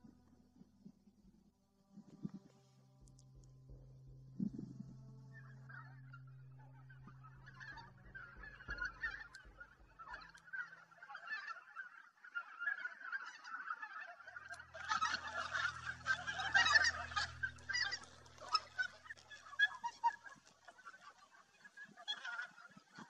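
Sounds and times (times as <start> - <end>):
geese honking: 2.0 - 23.0.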